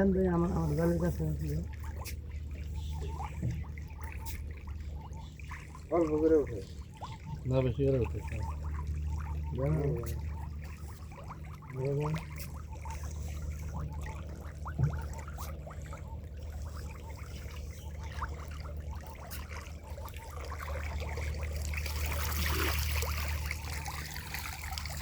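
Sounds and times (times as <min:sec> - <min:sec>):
steady low hum: 0:00.0 - 0:25.0
water trickling and splashing: 0:00.0 - 0:25.0.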